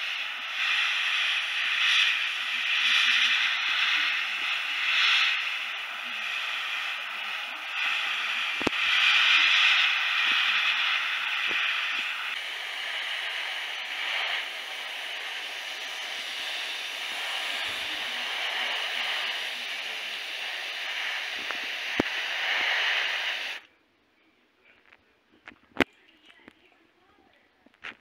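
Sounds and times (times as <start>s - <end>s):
airbrush spraying hiss: 0.0s - 23.6s.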